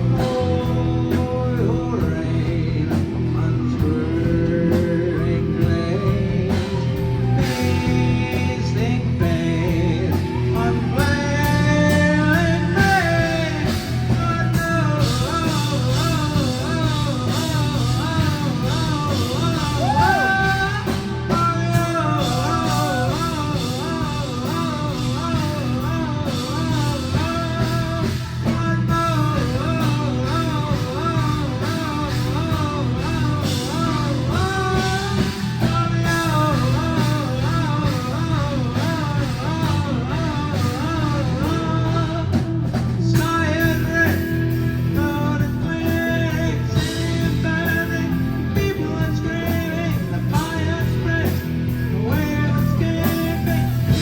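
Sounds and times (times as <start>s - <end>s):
bending lead melody: 0.0s - 54.0s
rock band playing: 0.0s - 54.0s.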